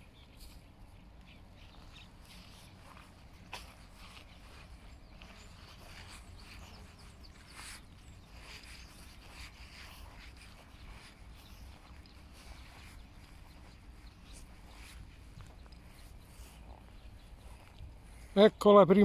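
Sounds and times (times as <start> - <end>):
grass swishing underfoot: 0.3 - 18.3.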